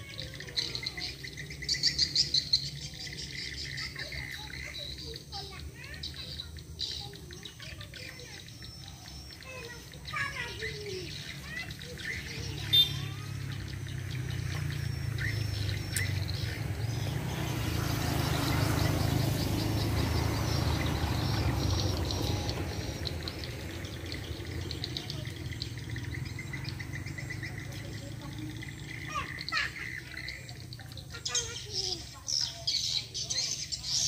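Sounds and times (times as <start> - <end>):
swiftlets twittering: 0.0 - 33.9.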